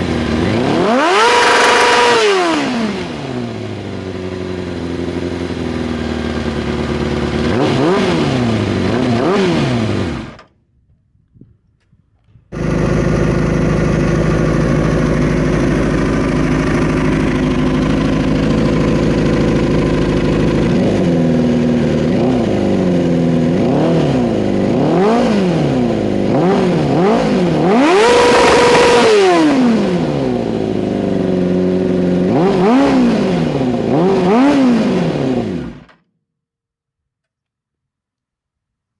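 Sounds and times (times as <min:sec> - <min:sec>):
motorcycle engine idling and revving: 0:00.0 - 0:36.2.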